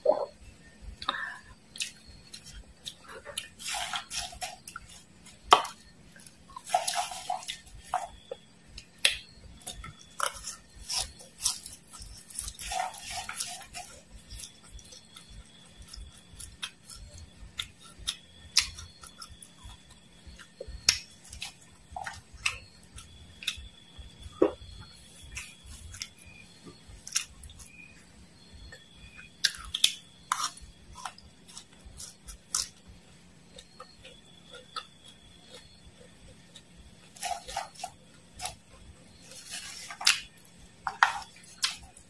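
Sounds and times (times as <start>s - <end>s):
crisp rustling of dry fried insects: 0.7s - 42.0s.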